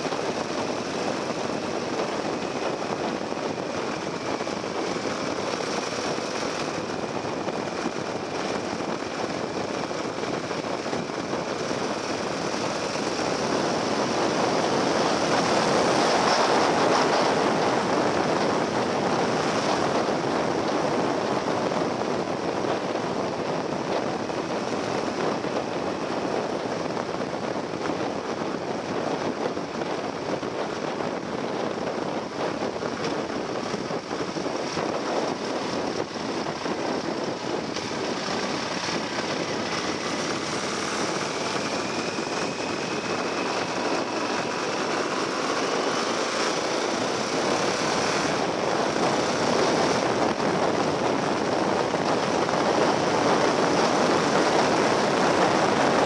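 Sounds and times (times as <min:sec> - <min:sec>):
motorcycle engine drone: 0:00.0 - 0:56.0
wind buffeting microphone: 0:00.0 - 0:56.0.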